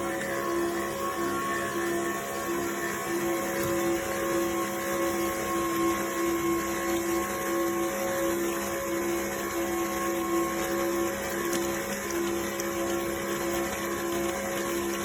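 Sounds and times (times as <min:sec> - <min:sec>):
electric juicer motor whirring: 0:00.0 - 0:15.0.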